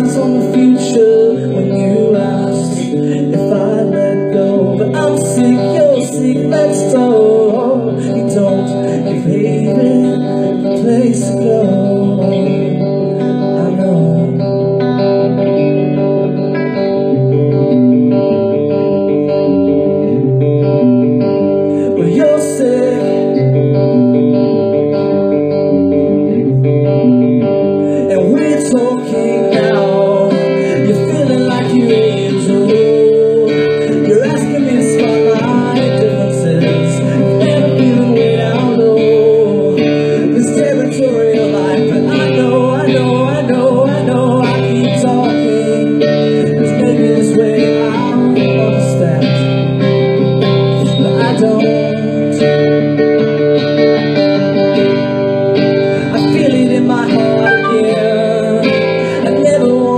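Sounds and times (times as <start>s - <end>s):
electric guitar playing: 0.0s - 59.9s.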